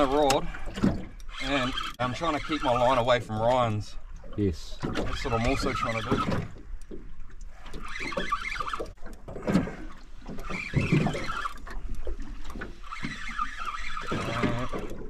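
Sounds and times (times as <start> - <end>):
water slapping boat hull: 0.0 - 15.0.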